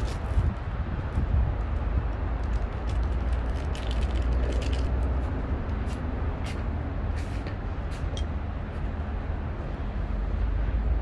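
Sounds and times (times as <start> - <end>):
city traffic rumble: 0.0 - 11.0
wind: 0.0 - 11.0.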